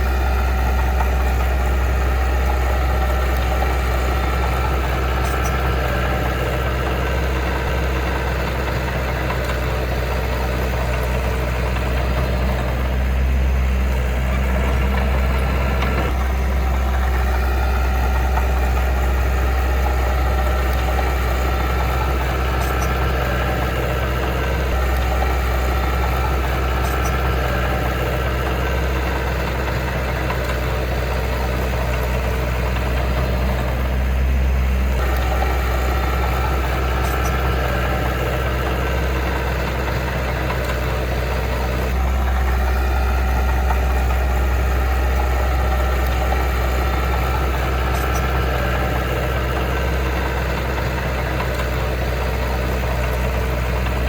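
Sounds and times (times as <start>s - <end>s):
diesel engine droning steadily: 0.0s - 54.0s.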